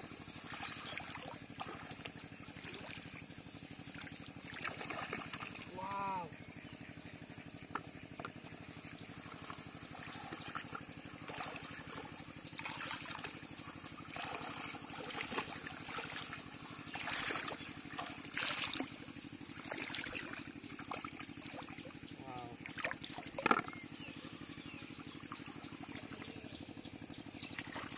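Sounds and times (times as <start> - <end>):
steady low hum: 0.0 - 27.9
water sloshing and splashing: 0.1 - 6.3, 7.6 - 27.9.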